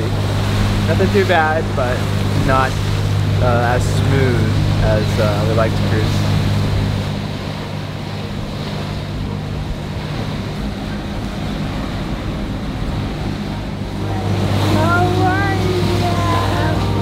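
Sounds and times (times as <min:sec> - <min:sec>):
water rushing at boat bow: 0:00.0 - 0:17.0
wind buffeting microphone: 0:00.0 - 0:17.0.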